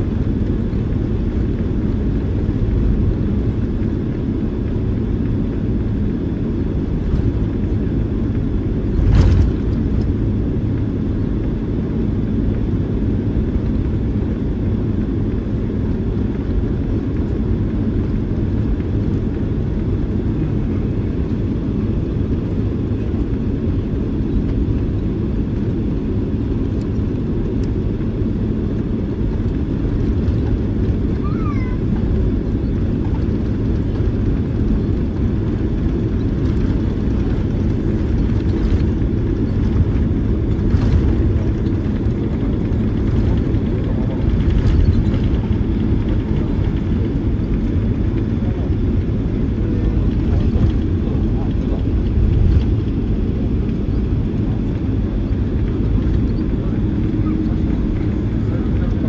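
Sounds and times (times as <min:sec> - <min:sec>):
jet cabin low rumble: 0:00.0 - 0:59.0.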